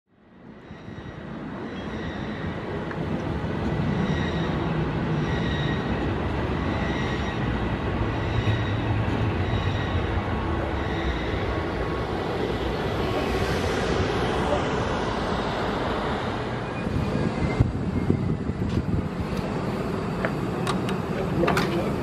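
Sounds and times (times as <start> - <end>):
train wheels rumbling on rails: 0.4 - 22.0.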